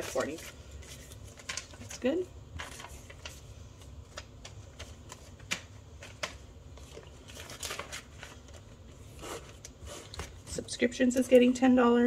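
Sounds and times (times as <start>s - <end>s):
plastic rustling and crinkling: 0.0s - 10.6s.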